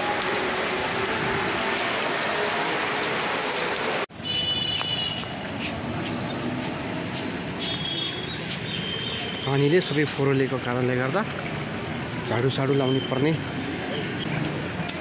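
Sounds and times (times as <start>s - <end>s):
rain falling on street: 0.0s - 15.0s.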